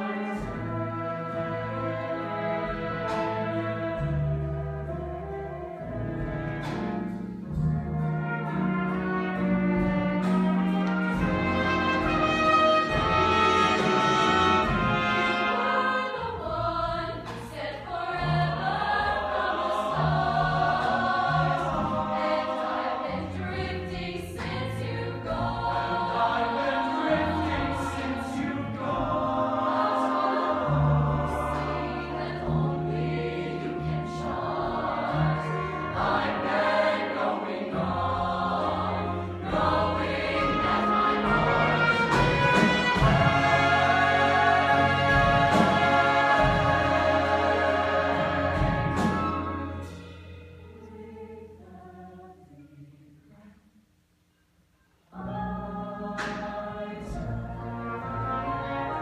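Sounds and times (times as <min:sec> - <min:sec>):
instrumental accompaniment: 0:00.0 - 0:52.0
choir singing in harmony: 0:00.0 - 0:53.6, 0:55.1 - 0:59.0.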